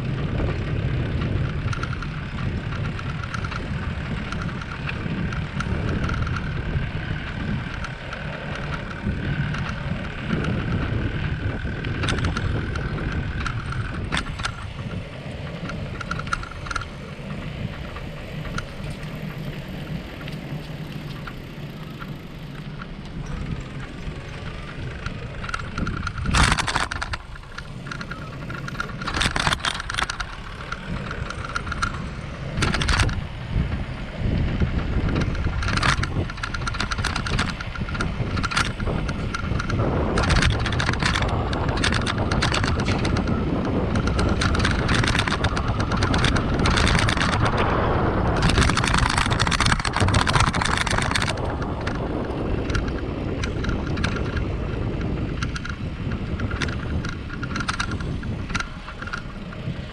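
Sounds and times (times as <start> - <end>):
bicycle rattling: 0.0 - 59.9
wind rumbling on microphone: 0.0 - 59.9.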